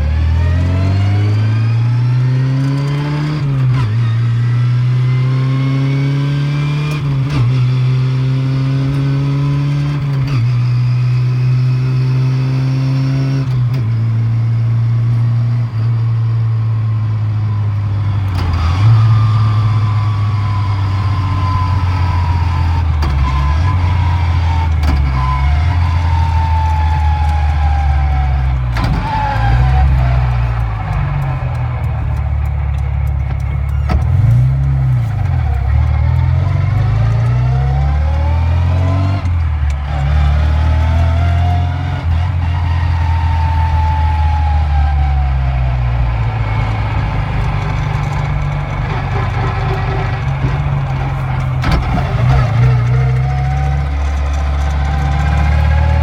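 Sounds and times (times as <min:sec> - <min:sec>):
car engine accelerating: 0:00.0 - 0:56.0
gearbox whine: 0:00.0 - 0:56.0.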